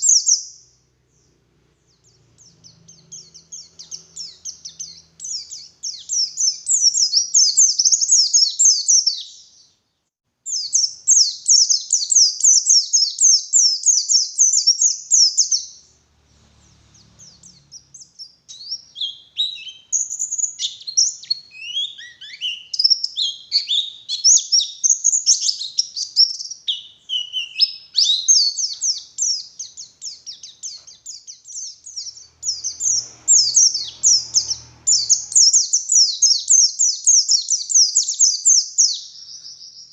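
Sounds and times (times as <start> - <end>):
bird twittering and warbling: 1.2 - 9.4, 10.5 - 39.4.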